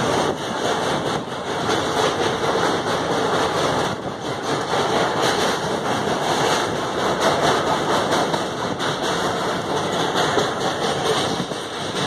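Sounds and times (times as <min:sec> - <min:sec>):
train wheels rumbling and rattling: 0:00.0 - 0:12.0.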